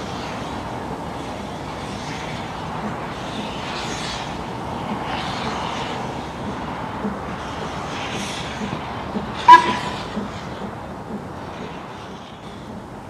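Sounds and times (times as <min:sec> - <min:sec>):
steam hissing: 0:00.0 - 0:13.0
steam train rumbling: 0:00.0 - 0:13.0.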